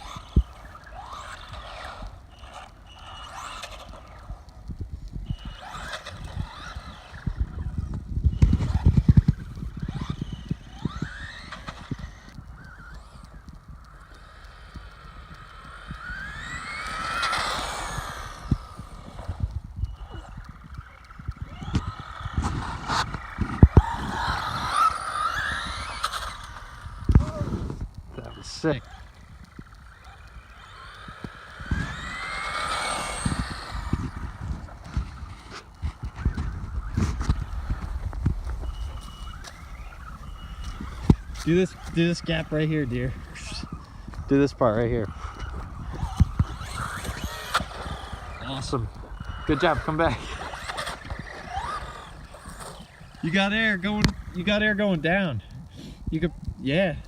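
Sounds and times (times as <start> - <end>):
electric motor whining: 0.0 - 57.0
tyres and chassis rattling: 0.0 - 57.0.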